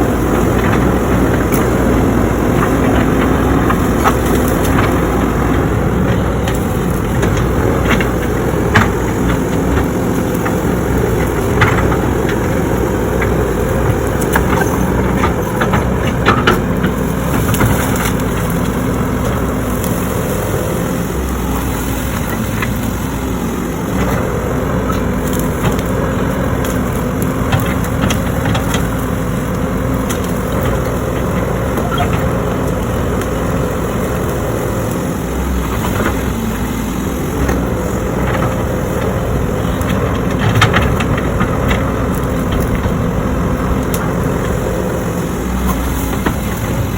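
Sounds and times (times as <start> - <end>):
heavy machine diesel engine: 0.0 - 46.9
wood cracking and snapping: 0.0 - 46.9.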